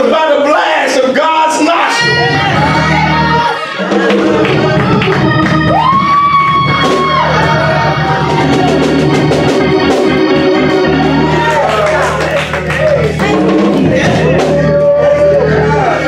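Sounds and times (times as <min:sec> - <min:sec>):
gospel organ music: 0:01.6 - 0:16.0
drum kit: 0:01.9 - 0:16.0.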